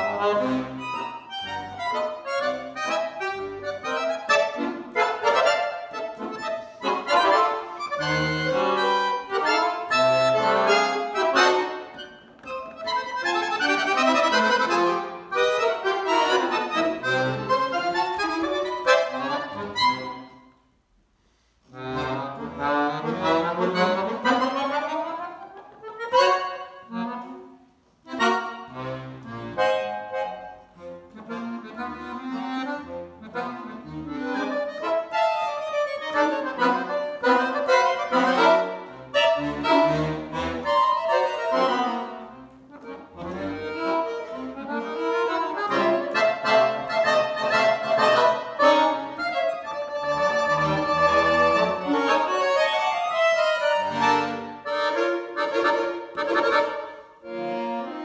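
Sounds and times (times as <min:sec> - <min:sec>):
accordion duet: 0:00.0 - 0:58.0.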